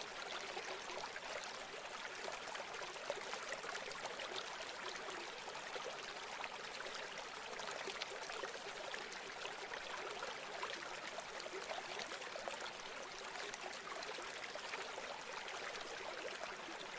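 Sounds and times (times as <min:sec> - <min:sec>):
stream flowing over stones: 0:00.0 - 0:16.9.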